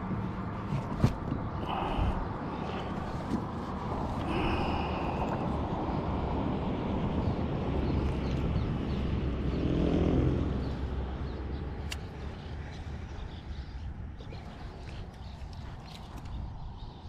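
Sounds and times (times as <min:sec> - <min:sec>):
passing engine hum: 0:00.0 - 0:16.5.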